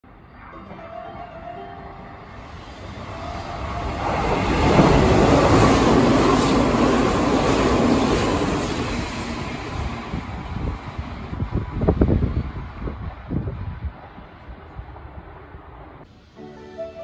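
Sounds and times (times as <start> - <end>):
electric train passing: 0.1 - 17.0.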